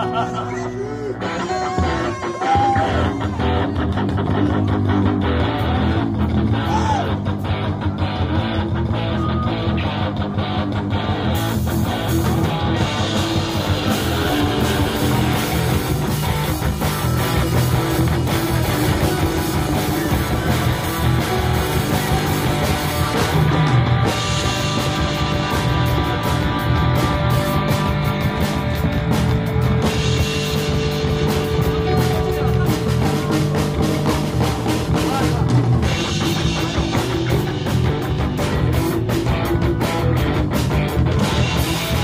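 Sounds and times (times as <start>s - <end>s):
electric bass line: 0.0s - 42.0s
live instrumental rock band: 0.0s - 42.0s.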